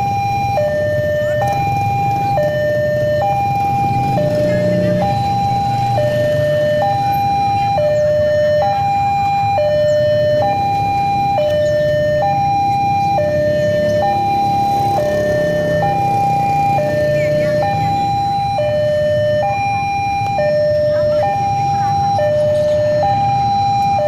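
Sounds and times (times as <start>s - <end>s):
two-tone siren: 0.0s - 24.0s.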